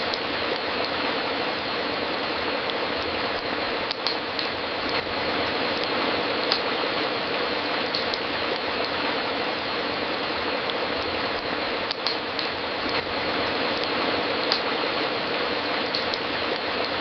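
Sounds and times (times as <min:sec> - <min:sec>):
fireplace crackling and popping: 0:00.0 - 0:17.0.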